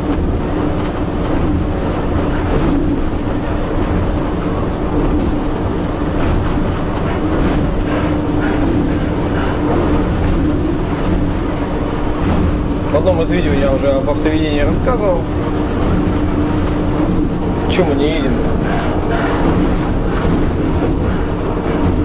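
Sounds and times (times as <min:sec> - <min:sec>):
constant hum: 0:00.0 - 0:22.0
train rumbling on track: 0:00.0 - 0:22.0.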